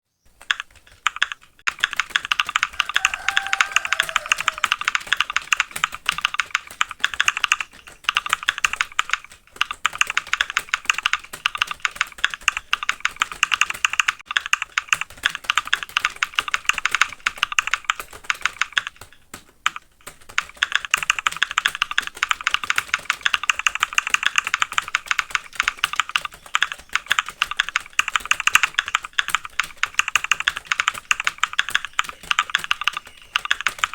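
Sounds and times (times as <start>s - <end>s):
fast typing on keyboard: 0.3s - 33.9s.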